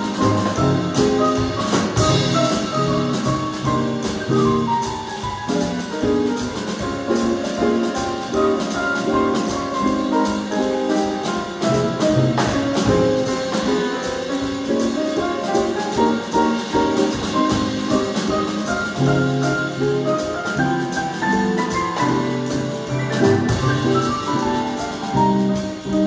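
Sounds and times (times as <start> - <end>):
jazz trio playing swing: 0.0 - 26.0.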